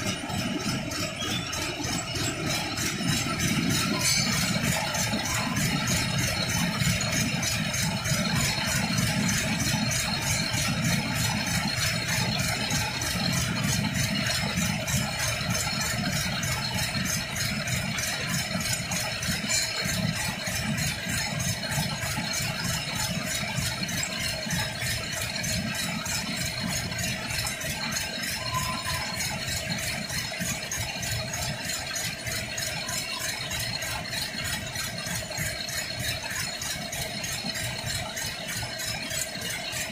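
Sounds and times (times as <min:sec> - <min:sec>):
knitting machine rattling: 0:00.0 - 0:39.9.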